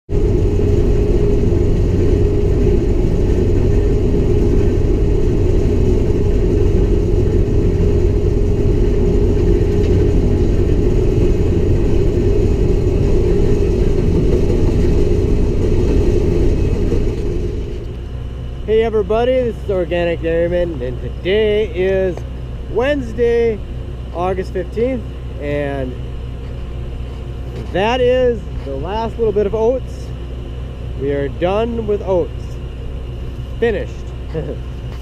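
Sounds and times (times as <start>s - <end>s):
combine harvester rumbling: 0.1s - 35.0s.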